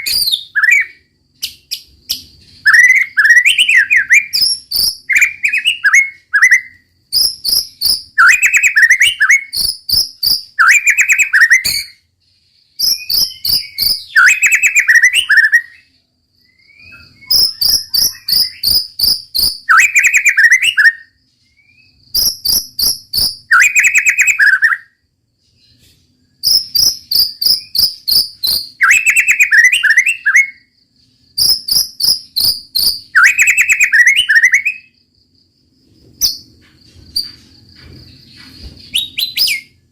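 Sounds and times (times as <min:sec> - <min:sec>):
bird singing rapid clicking notes: 0:00.0 - 0:12.0, 0:12.8 - 0:15.7, 0:16.6 - 0:24.9, 0:26.4 - 0:34.8, 0:36.2 - 0:39.9.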